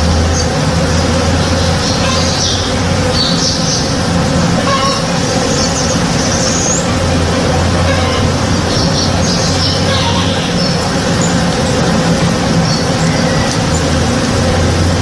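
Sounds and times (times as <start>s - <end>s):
bird chirps: 0.0s - 4.0s, 4.6s - 14.0s
bees buzzing: 0.0s - 15.0s.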